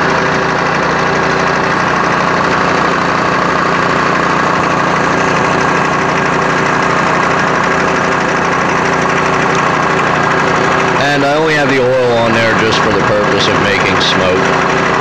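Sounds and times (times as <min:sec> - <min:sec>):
milling machine running: 0:00.0 - 0:15.0.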